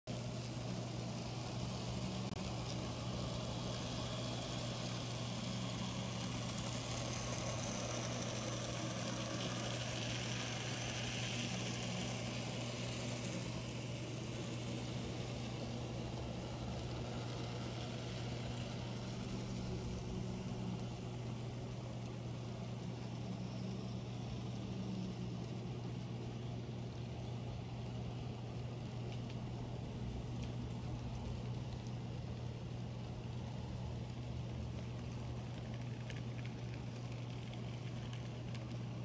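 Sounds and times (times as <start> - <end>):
faint higher whir: 0.1 - 39.0
model train low hum: 0.1 - 39.0.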